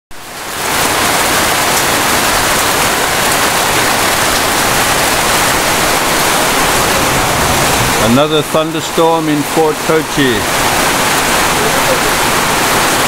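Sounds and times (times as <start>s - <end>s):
heavy rain: 0.1s - 13.0s.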